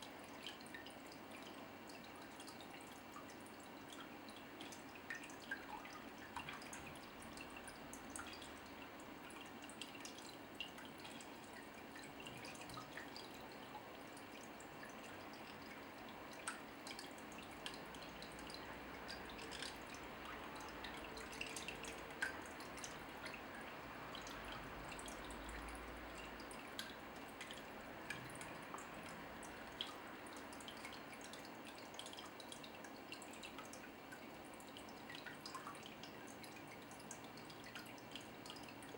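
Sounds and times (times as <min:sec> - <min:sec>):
water dripping and trickling: 0:00.0 - 0:38.9.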